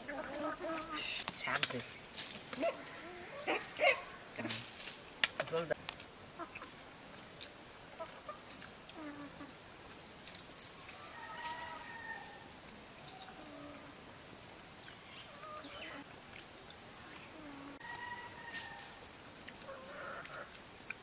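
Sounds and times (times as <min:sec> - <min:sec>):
chickens clucking: 0:00.0 - 0:04.6, 0:05.2 - 0:14.1, 0:14.8 - 0:21.0.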